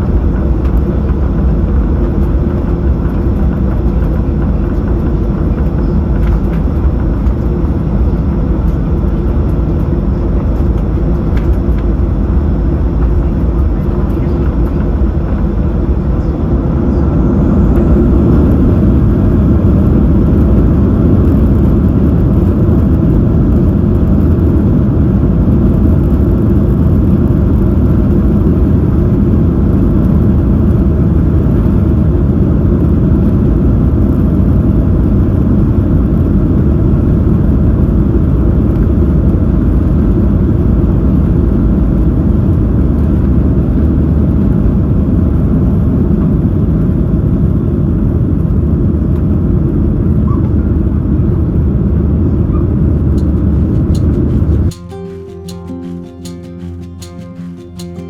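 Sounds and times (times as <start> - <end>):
jet engines low rumble: 0.0 - 58.0.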